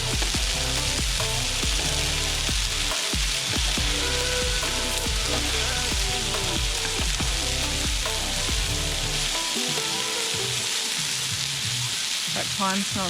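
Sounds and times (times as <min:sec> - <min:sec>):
background music with a beat: 0:00.0 - 0:11.8.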